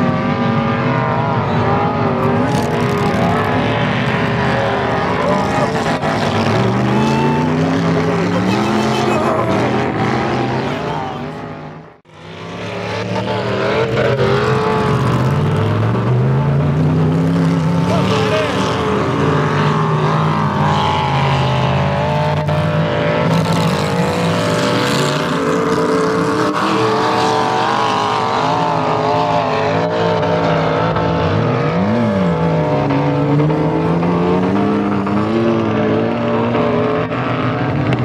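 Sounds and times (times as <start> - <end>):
off-road engine revving hard: 0.0 - 38.0.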